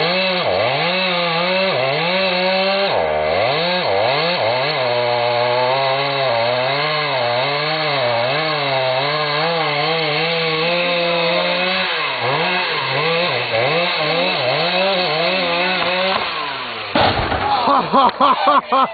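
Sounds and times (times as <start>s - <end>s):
chainsaw engine revving: 0.0s - 18.9s.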